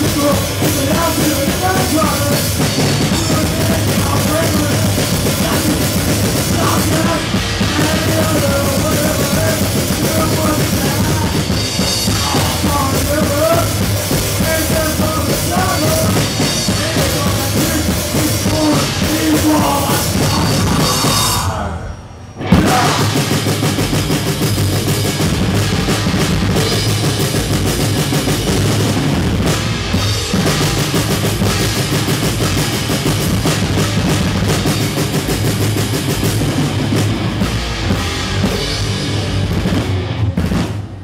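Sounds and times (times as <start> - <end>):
bass drum: 0.0 - 21.5, 22.4 - 41.0
cymbals: 0.0 - 39.5
rock band playing live: 0.0 - 41.0.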